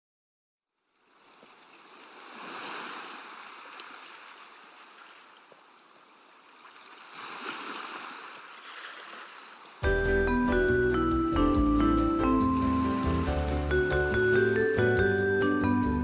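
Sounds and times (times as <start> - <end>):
rushing water-like noise: 1.0 - 15.0.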